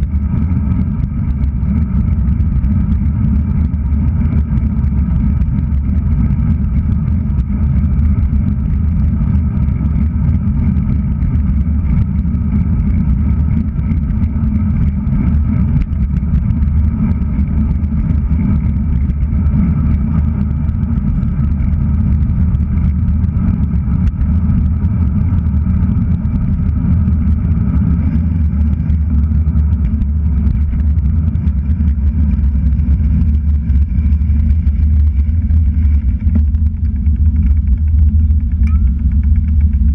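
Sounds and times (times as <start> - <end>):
wind buffeting a camera: 0.0 - 39.9.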